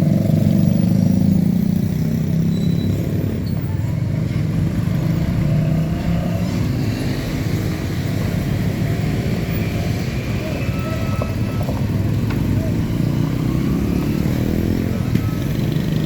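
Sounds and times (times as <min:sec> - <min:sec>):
heavy vehicles passing: 0:00.0 - 0:16.0.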